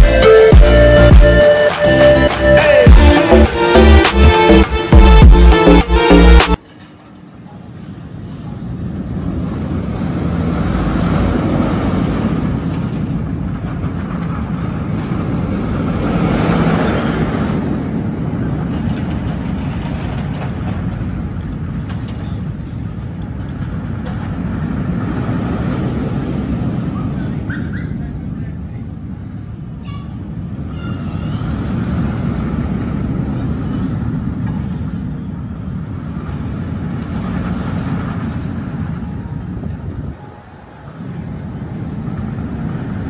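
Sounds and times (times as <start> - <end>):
roller coaster wheels rolling on rails: 6.6 - 43.0.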